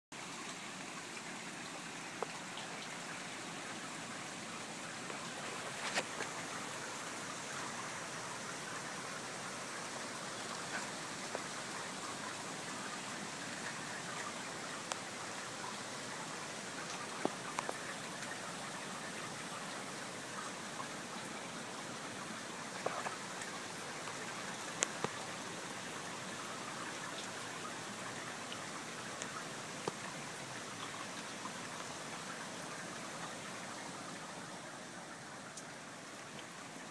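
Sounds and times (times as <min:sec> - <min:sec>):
steady rain hiss: 0:00.1 - 0:36.9
sharp drip ticks: 0:02.1 - 0:03.1, 0:05.0 - 0:34.4, 0:35.2 - 0:36.8.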